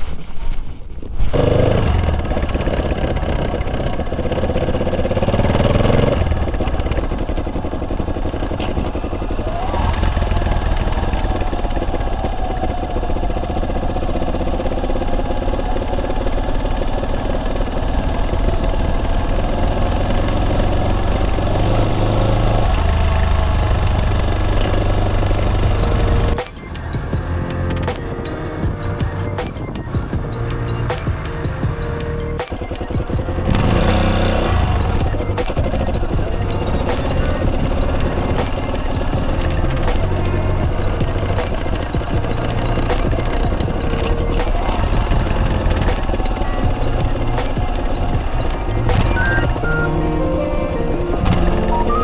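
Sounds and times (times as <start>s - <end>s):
motorcycle engine revving: 1.3s - 49.4s.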